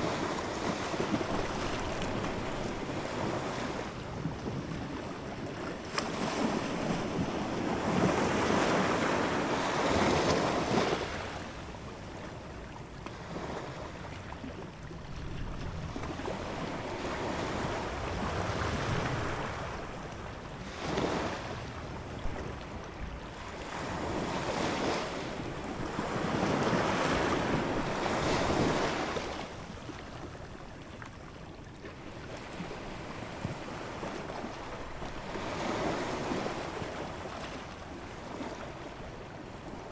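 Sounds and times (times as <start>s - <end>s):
ocean waves breaking on shore: 0.0s - 30.7s, 31.9s - 39.9s.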